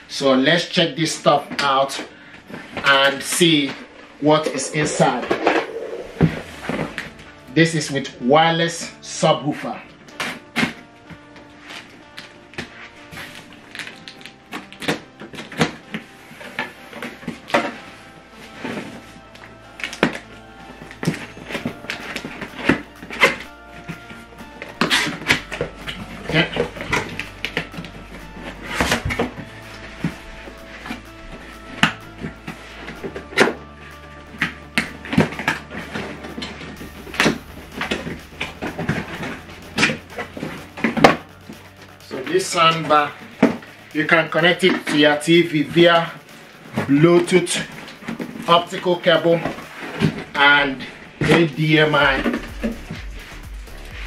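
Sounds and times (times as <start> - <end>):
faint background music: 0.0 - 54.0.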